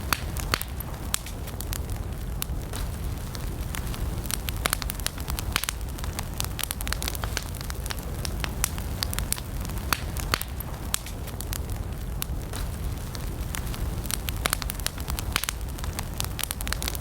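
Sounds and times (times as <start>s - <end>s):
campfire crackling and popping: 0.0s - 17.0s
low rumble of fire: 0.0s - 17.0s.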